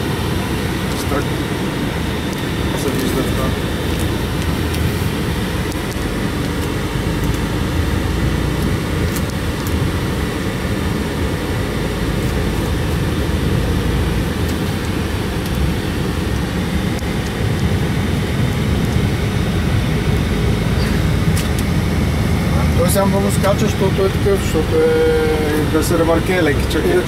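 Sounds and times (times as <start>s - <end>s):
diesel truck engine running: 0.0s - 27.0s
road and tyre noise: 0.0s - 27.0s.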